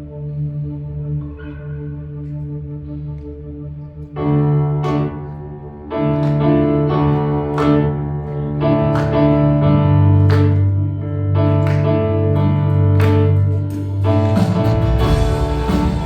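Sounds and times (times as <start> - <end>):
keyboard playing sustained chords: 0.0 - 16.0.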